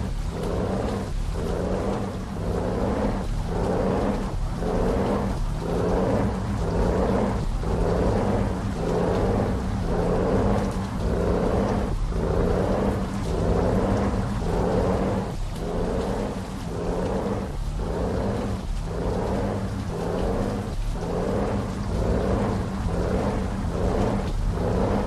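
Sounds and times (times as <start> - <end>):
heavy truck rumbling: 0.0 - 25.0
rhythmic whooshing: 0.0 - 25.0.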